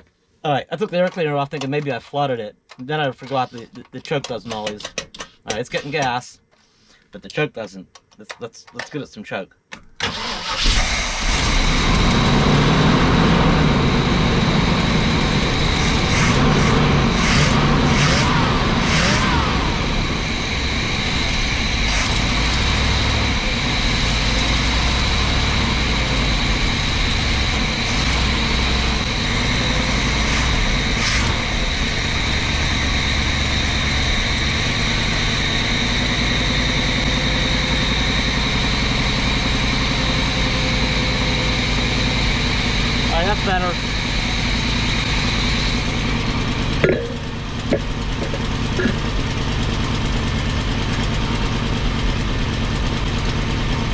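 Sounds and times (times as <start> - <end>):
engine starting and idling fast: 10.0 - 53.9.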